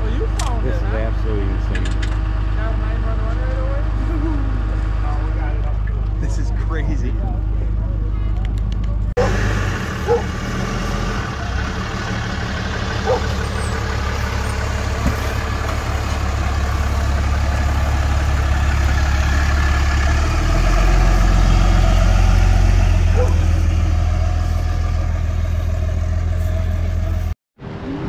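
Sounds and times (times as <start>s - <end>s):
engine idling: 0.0s - 27.4s.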